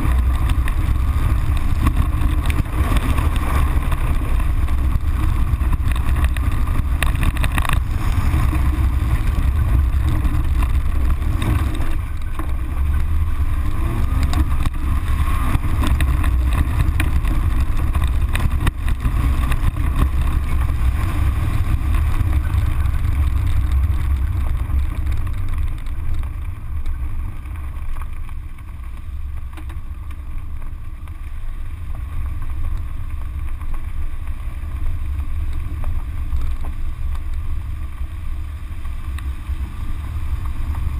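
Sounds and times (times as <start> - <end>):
car engine: 0.0 - 40.9
gravel knocks: 0.0 - 40.9
tyre noise on dirt: 0.0 - 40.9
wind rumble on microphone: 0.0 - 40.9.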